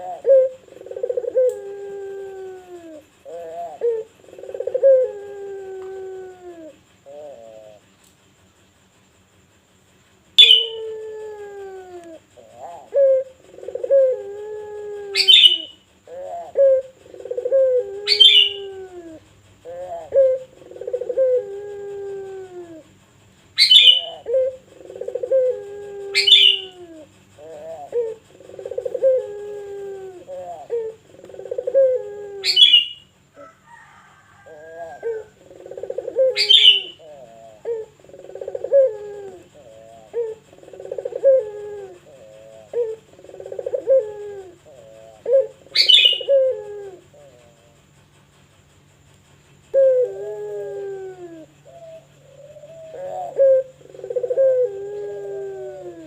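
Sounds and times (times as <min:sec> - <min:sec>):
dove cooing: 0:00.0 - 0:08.0, 0:10.4 - 0:48.2, 0:49.6 - 0:56.0.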